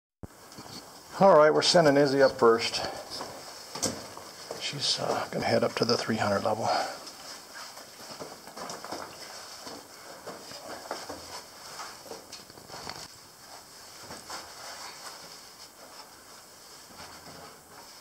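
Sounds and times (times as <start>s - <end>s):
faint steady hiss: 0.3s - 18.0s
boots on wooden ladder rungs: 0.4s - 18.0s.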